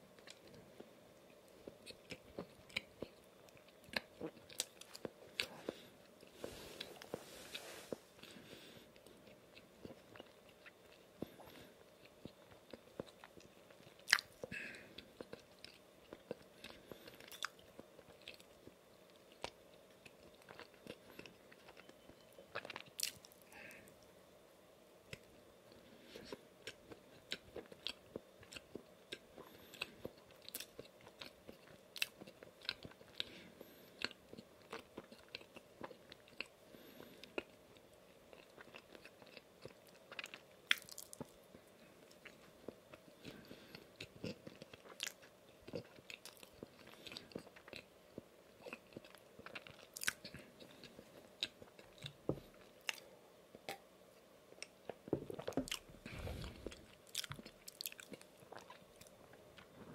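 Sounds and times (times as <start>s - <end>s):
chewing with mouth clicks: 0.2s - 24.0s, 25.1s - 53.8s, 54.6s - 59.9s.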